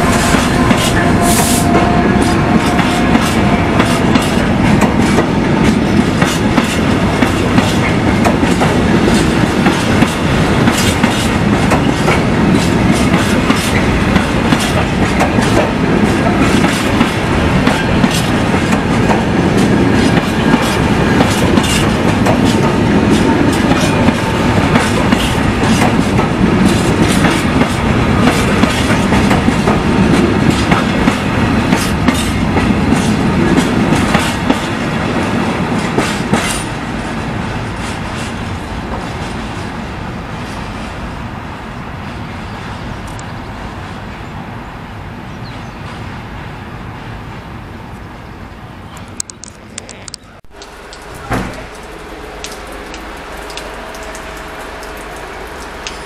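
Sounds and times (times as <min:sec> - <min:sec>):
freight train wagons rolling past: 0:00.0 - 0:49.4, 0:50.3 - 0:56.0.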